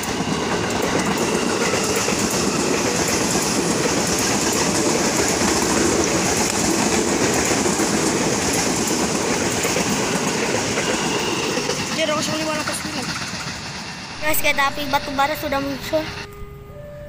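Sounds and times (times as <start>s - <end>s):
train wheels on rails: 0.0s - 16.4s.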